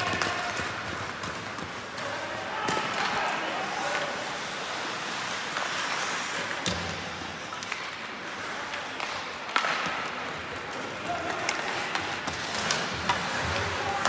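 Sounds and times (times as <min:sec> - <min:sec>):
ice rink background noise: 0:00.0 - 0:14.0.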